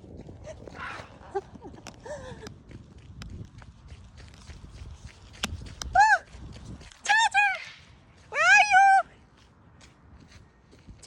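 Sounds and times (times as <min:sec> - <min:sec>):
footsteps on ground: 0:00.0 - 0:11.0
wind rumble on microphone: 0:00.0 - 0:11.0.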